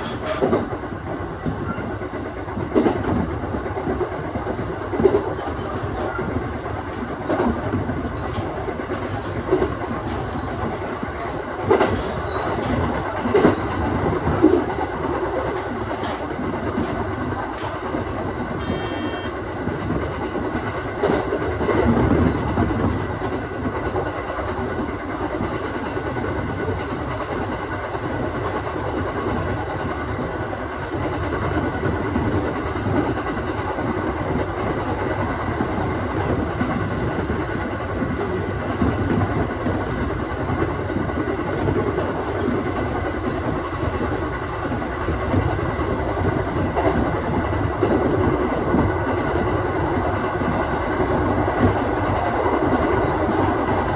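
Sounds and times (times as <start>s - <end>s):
train rolling and motor noise: 0.0s - 53.9s
wheels clicking over rail joints: 0.0s - 53.9s.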